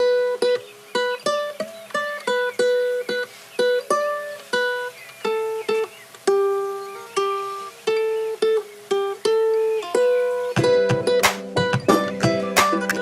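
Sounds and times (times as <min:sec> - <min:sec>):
plucked-string melody: 0:00.0 - 0:13.0.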